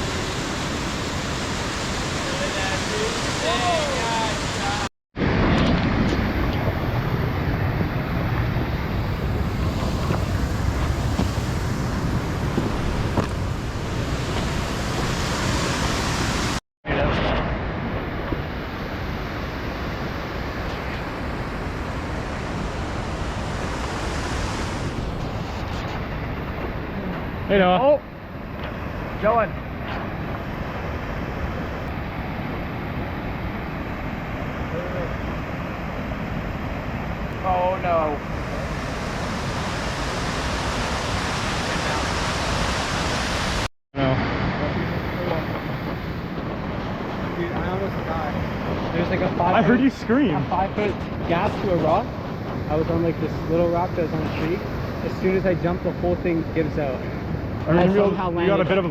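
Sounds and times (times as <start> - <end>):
creek water rushing: 0.0 - 4.9, 6.2 - 16.6, 18.4 - 57.6
wind rumble on microphone: 0.0 - 58.9.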